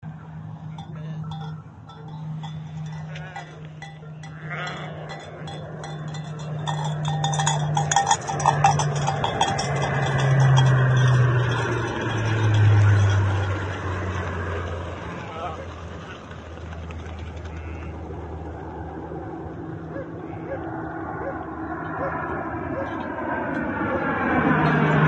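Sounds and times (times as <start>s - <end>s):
low-flying aircraft engine drone: 0.0s - 25.0s.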